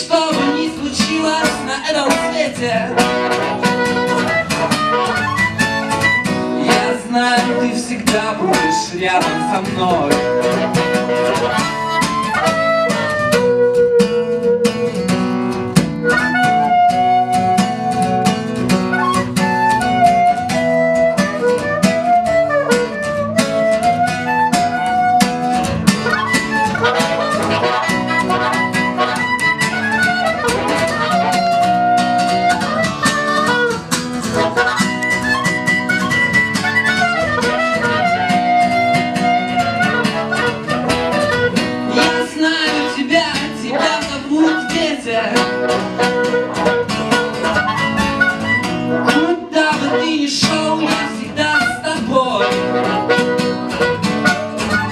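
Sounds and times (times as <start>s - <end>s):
strummed acoustic guitar: 0.0s - 54.9s
wavering lead melody: 0.3s - 42.9s, 43.7s - 49.2s.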